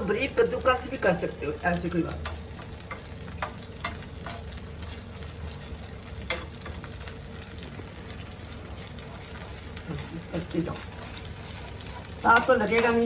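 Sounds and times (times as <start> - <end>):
ginger sizzling in a pan: 0.0 - 13.0.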